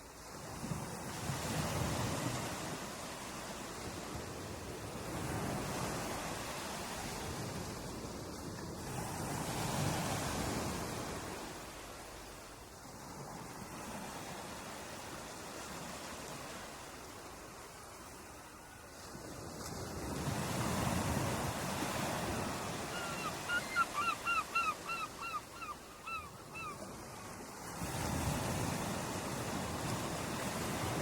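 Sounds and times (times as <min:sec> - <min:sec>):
ocean surf washing ashore: 0:00.0 - 0:31.0.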